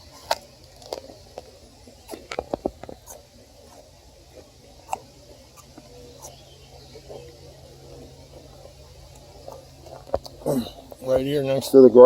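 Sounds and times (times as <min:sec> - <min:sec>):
turtle scratching in soil: 0:00.0 - 0:11.6.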